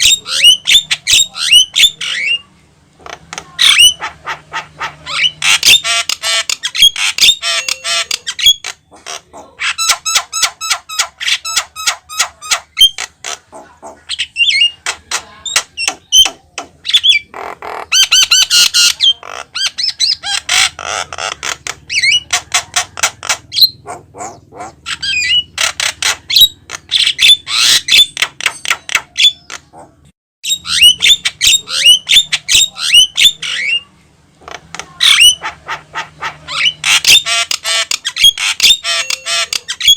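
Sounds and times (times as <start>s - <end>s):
myna chattering and squawking: 0.0s - 39.9s.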